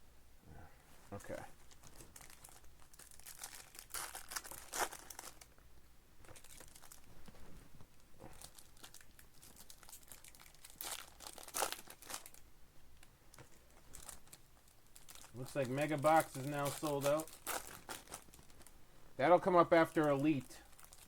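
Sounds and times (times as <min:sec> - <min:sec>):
plastic wrappers crinkling and tearing: 0:01.6 - 0:05.6, 0:06.2 - 0:07.4, 0:08.0 - 0:18.8, 0:19.4 - 0:21.0.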